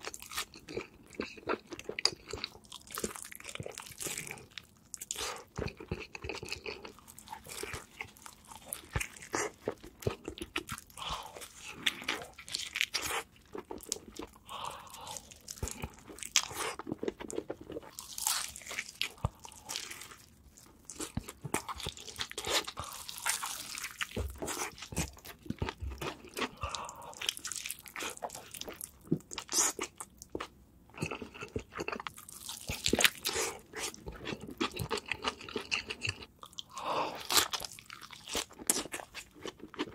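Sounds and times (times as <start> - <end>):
crunching fried chicken: 0.0 - 39.9
person chewing: 0.0 - 39.9.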